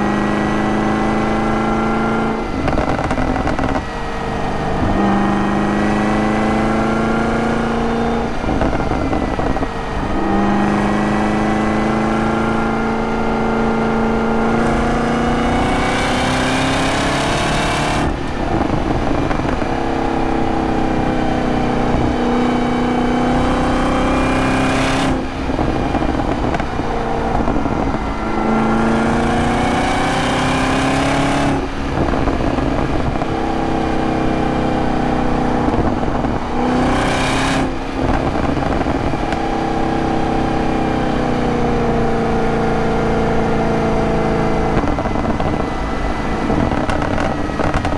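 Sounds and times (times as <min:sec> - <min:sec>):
car engine accelerating through gears: 0:00.0 - 0:47.9.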